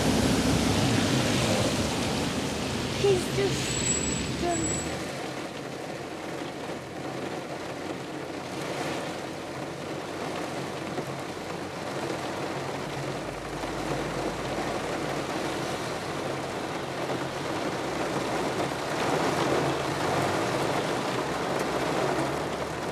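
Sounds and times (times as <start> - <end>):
heavy rain on a car roof: 0.0 - 22.9.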